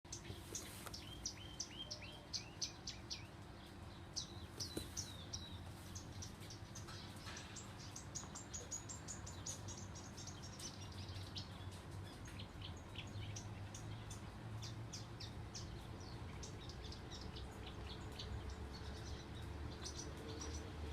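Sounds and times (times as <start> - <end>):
songbird singing: 0.0 - 20.9.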